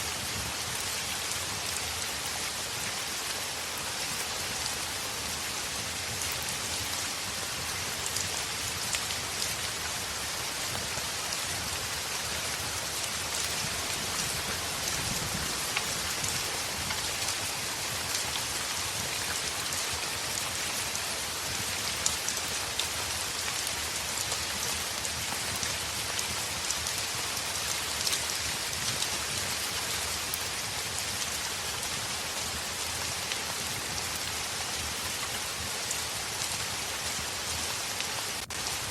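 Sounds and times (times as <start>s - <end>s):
heavy rain on a window: 0.0s - 38.9s.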